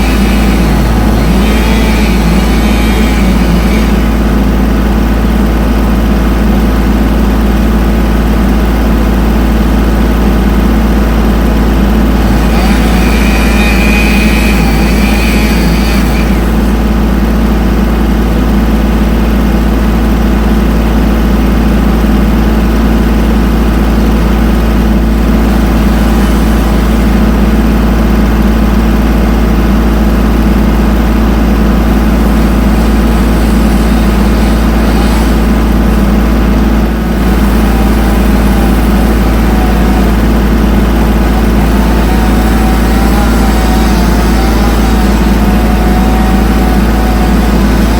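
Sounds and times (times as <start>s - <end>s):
loud engine running steadily: 0.0s - 47.9s.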